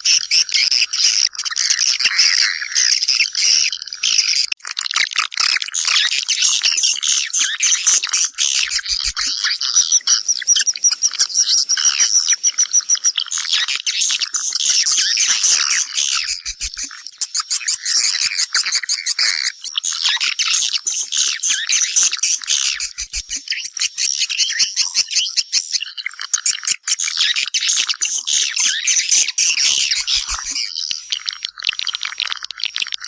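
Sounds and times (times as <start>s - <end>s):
swiftlets chirping and twittering: 0.0s - 33.0s.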